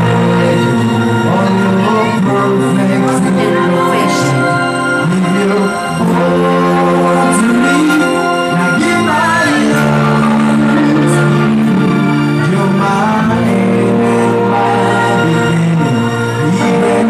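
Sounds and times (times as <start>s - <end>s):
electric guitars: 0.0s - 17.0s
person singing: 0.0s - 17.0s.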